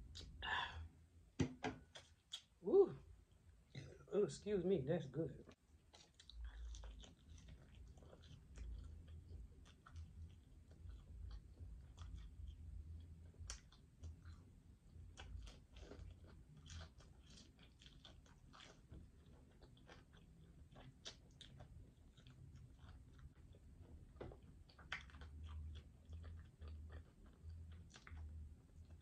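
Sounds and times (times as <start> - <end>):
chewing mouth clicks and smacks: 1.8 - 2.5, 5.8 - 29.0.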